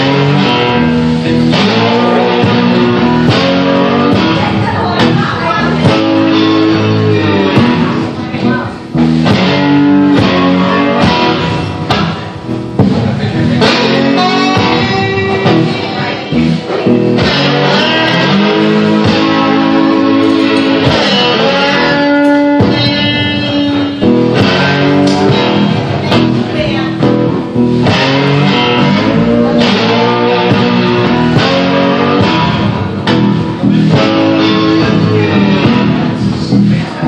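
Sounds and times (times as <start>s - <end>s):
electric guitar rock instrumental: 0.0s - 37.0s.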